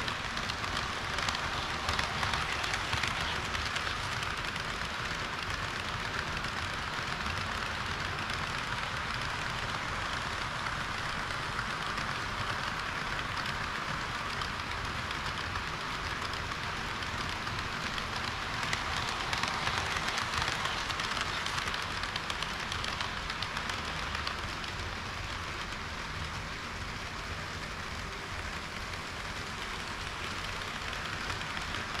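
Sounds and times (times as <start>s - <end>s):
model train wheels rattling: 0.0s - 32.0s.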